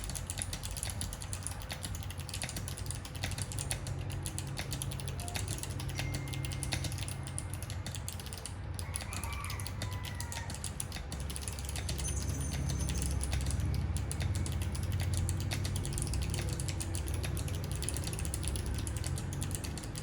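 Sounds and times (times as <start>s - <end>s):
fast typing on clicky keyboard: 0.0s - 20.0s.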